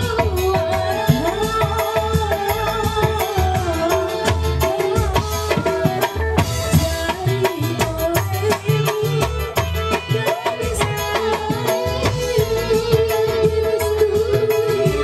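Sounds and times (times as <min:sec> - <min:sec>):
hand drums rhythm: 0:00.0 - 0:15.0.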